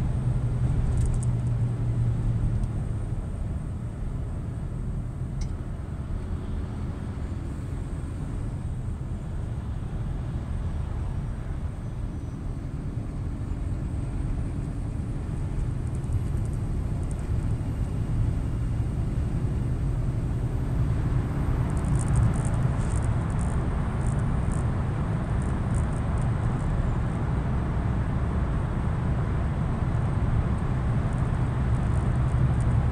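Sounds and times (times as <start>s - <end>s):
truck engine and tyres rumbling: 0.0s - 32.9s.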